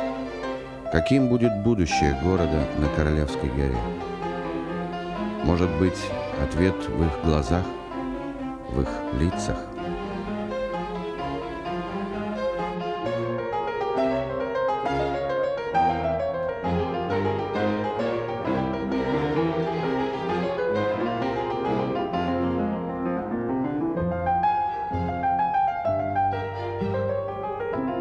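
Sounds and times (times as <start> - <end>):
classical piano music: 0.0 - 28.0.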